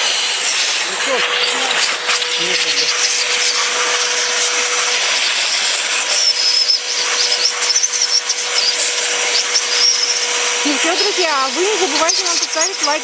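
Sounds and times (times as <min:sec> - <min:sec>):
vacuum blower motor whine: 0:00.0 - 0:13.0.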